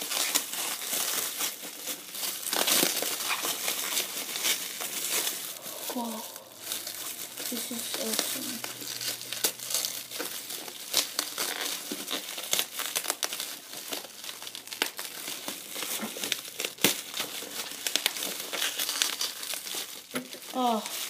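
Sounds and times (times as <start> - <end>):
bubble wrap crinkling: 0.0 - 21.0.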